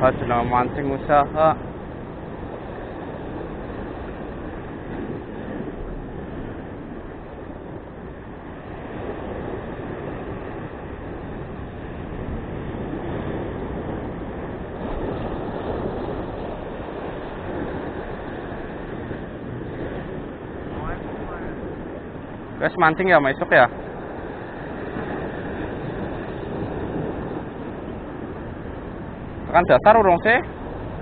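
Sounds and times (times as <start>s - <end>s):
surf breaking against rocks: 0.0s - 31.0s.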